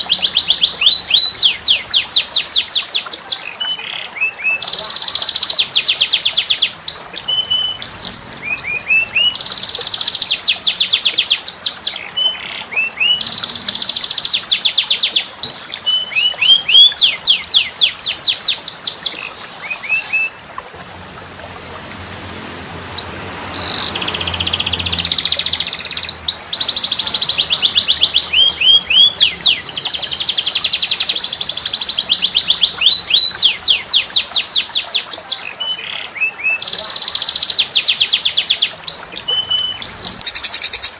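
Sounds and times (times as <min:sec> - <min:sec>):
songbird trilling and chirping: 0:00.0 - 0:20.4, 0:23.0 - 0:40.9.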